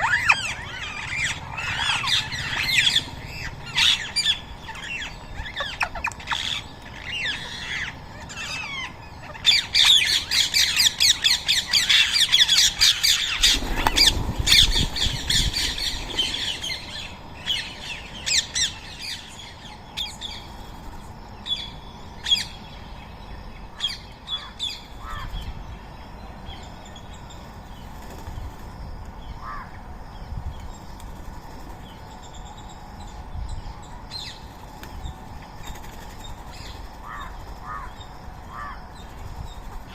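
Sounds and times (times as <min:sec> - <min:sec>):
parakeets calling: 0:00.0 - 0:39.9.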